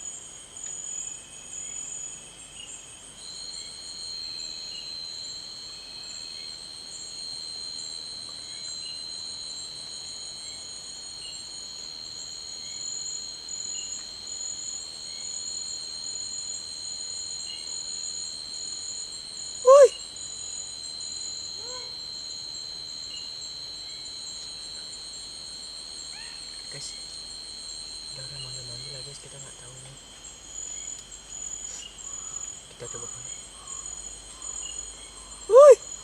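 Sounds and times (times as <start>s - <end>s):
insect chorus trilling: 0.0s - 36.0s.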